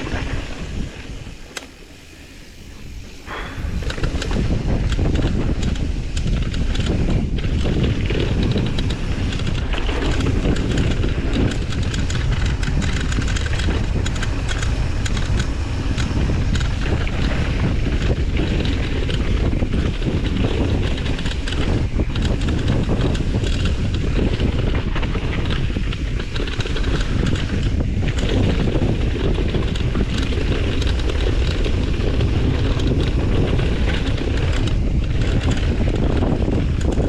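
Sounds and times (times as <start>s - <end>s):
bike rattling and knocking: 0.0s - 37.0s
wind buffeting microphone: 0.0s - 37.0s.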